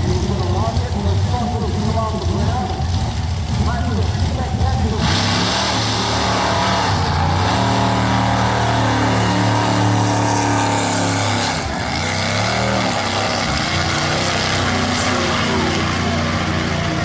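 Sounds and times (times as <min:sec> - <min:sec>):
racing engine running hard: 0:00.0 - 0:17.0.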